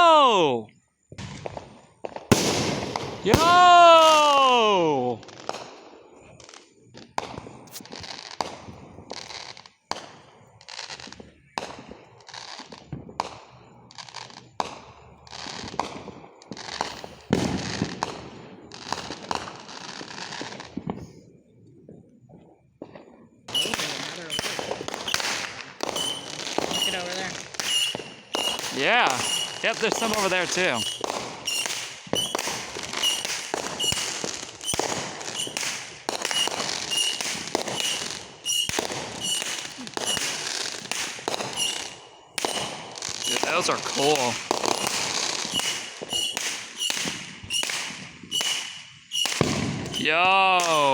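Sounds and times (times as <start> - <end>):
fireworks crackling: 0.0 - 0.6, 1.2 - 21.2, 22.8 - 50.9
fireworks bangs: 0.0 - 21.2, 22.8 - 50.9.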